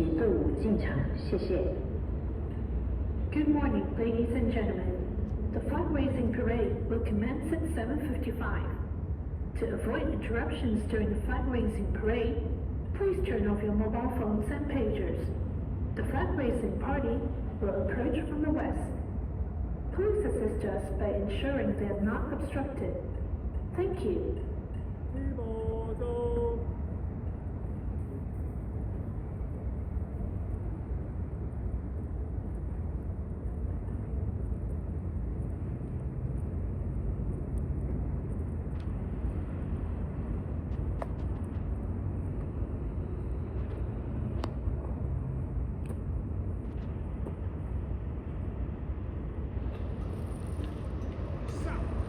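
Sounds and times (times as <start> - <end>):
low outdoor rumble: 0.0 - 52.0.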